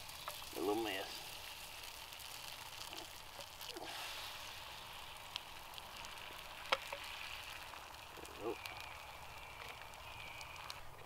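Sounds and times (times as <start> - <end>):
eggs sizzling in a skillet: 0.0 - 11.0.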